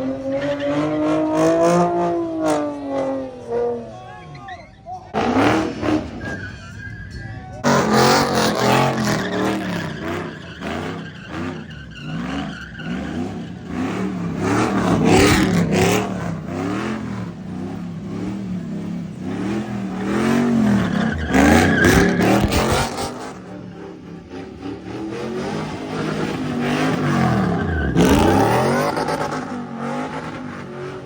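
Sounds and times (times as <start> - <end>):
car engine revving: 0.0 - 4.0, 5.1 - 31.0
tire squeal: 0.0 - 31.0.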